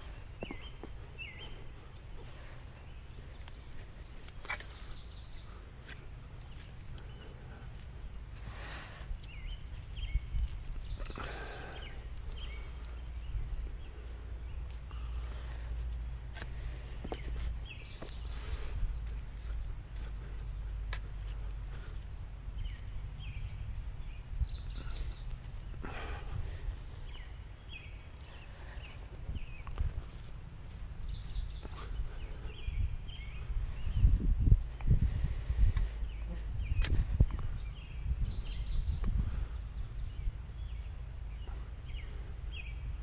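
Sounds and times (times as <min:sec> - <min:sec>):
birds chirping: 0:00.0 - 0:43.0
steady low rumble: 0:00.0 - 0:43.0.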